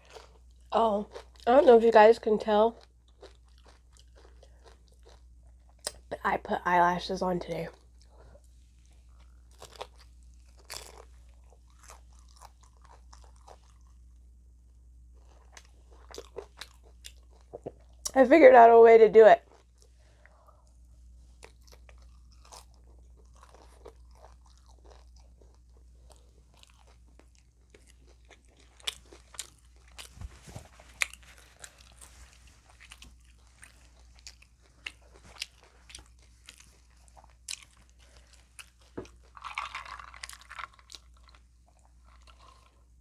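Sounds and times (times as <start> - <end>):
crunching taco shells: 2.7 - 6.0, 7.7 - 14.3, 15.1 - 18.1, 21.4 - 42.9.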